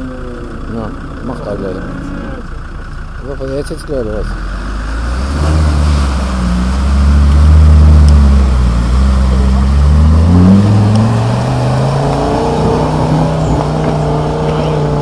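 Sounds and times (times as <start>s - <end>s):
vehicle engine pulling under load: 0.0s - 15.0s.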